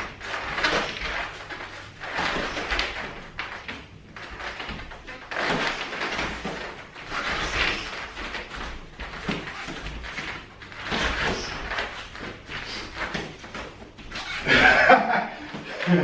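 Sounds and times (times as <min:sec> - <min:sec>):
bare feet scuffing on foam mat: 0:00.0 - 0:15.9.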